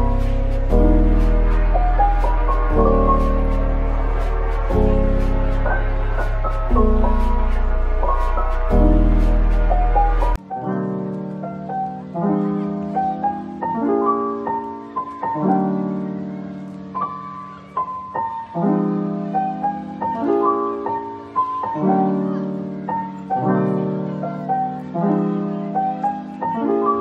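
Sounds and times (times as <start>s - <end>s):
gentle piano piece: 0.0s - 27.0s.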